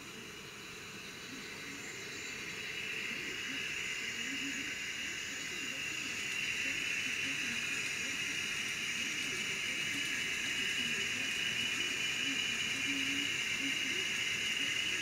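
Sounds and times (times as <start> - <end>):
constant hiss: 0.0 - 15.0
diesel engine sound from small speaker: 1.1 - 15.0.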